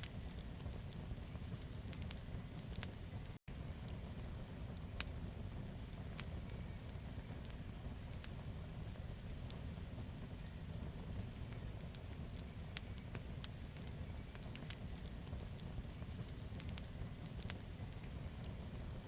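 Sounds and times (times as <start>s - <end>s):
burning wood crackling and popping: 0.0s - 19.0s
campfire flames rumbling: 0.0s - 19.0s.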